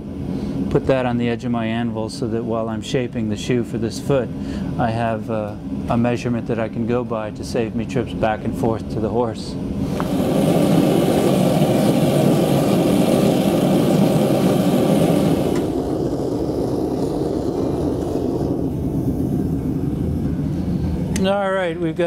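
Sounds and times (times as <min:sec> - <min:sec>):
gas forge burner hissing: 0:00.0 - 0:22.0.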